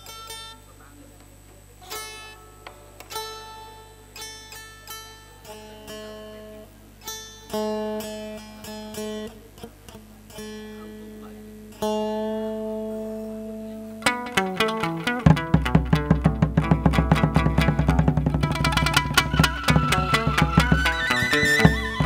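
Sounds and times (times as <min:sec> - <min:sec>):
plucked string instrument: 0:00.0 - 0:00.7, 0:01.8 - 0:22.0.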